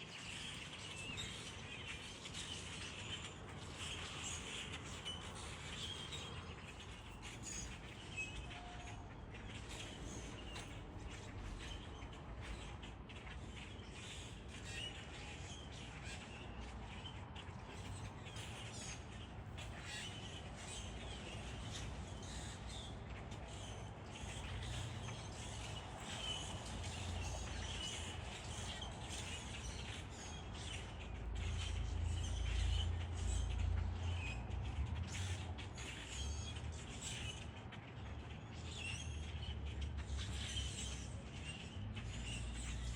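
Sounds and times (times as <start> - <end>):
wild birds chirping: 0.0 - 42.9.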